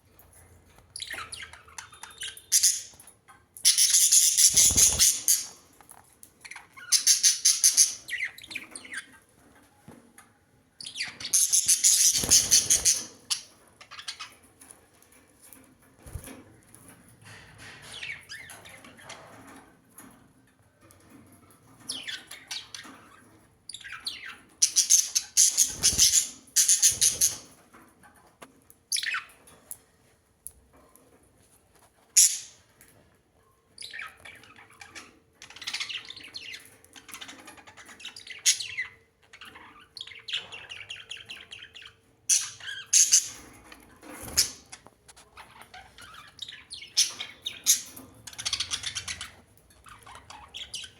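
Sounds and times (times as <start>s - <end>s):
birds chirping and squawking: 0.8s - 9.4s, 10.8s - 14.7s, 16.0s - 20.1s, 21.0s - 27.7s, 28.9s - 29.6s, 32.1s - 32.7s, 33.8s - 50.9s.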